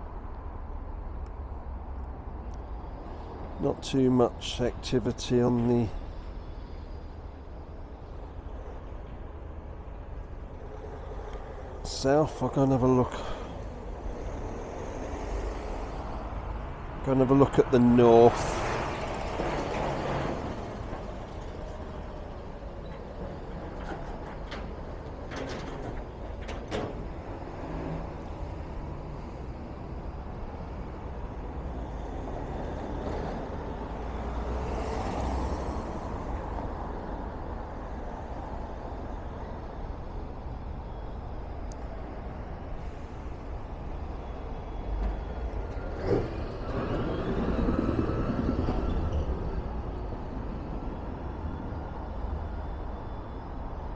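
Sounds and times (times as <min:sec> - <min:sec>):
road traffic passing: 0:00.4 - 0:53.9.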